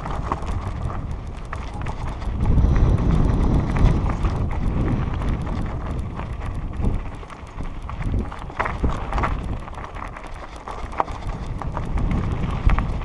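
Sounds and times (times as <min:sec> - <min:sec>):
bike rattling and clattering: 0:00.0 - 0:13.0
tyres crunching over loose stones: 0:00.0 - 0:13.0
wind buffeting microphone: 0:00.0 - 0:13.0.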